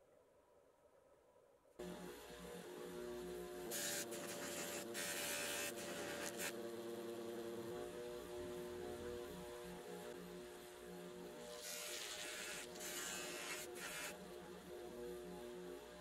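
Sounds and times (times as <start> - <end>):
electric motor humming: 1.8 - 16.0.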